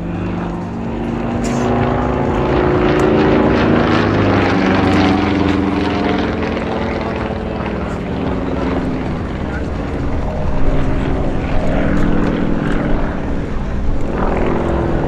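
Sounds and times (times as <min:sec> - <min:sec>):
propeller plane engine in flight: 0:00.0 - 0:15.0.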